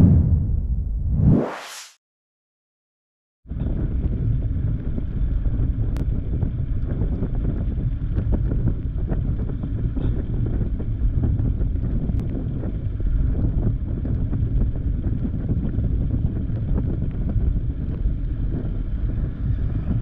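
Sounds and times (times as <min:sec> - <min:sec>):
wind on microphone: 0:00.0 - 0:01.5, 0:03.5 - 0:20.0.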